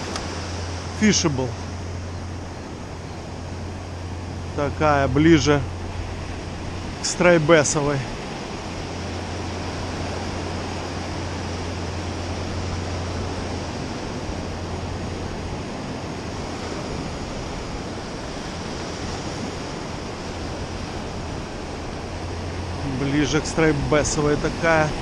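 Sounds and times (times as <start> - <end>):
ocean waves washing up beach: 0.0 - 25.0
wind rumble on microphone: 0.0 - 25.0.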